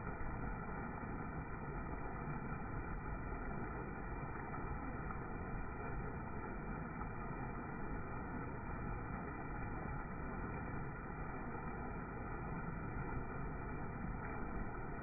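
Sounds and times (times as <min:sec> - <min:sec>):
floodwater rushing over waterfall: 0:00.0 - 0:15.0.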